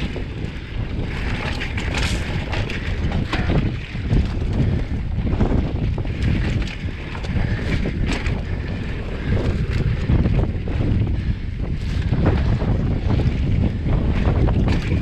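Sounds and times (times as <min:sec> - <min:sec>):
bike clicks and rattles: 0:00.0 - 0:15.0
bike tyre rumble on trail: 0:00.0 - 0:15.0
wind buffeting microphone: 0:00.0 - 0:15.0.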